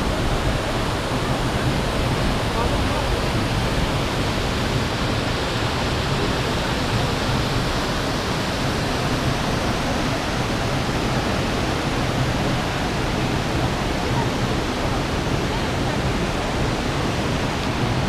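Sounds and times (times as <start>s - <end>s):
river rapids: 0.0s - 18.0s
waterfall rushing: 0.0s - 18.0s.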